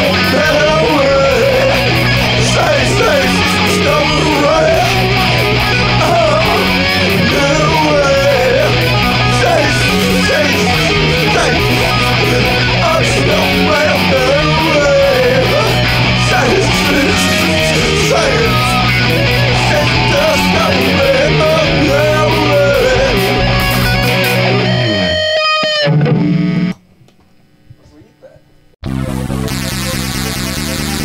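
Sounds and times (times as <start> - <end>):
bass line: 0.0 - 26.8, 28.8 - 31.0
wavering lead guitar line: 0.0 - 26.8
distorted electric guitars: 0.0 - 28.0, 28.8 - 31.0.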